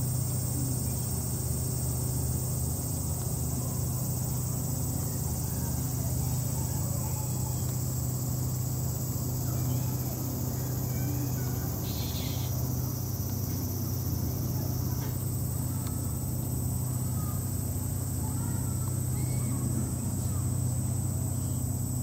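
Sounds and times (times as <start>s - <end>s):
insects droning: 0.0s - 22.0s
steady low hum: 0.0s - 22.0s.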